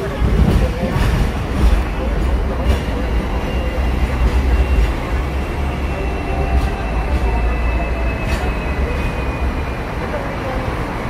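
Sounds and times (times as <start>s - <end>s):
tram rumbling on track: 0.0s - 11.0s.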